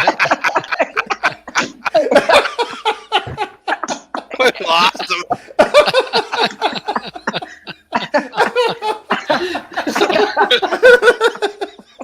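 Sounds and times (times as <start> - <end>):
people laughing hard: 0.0 - 12.0.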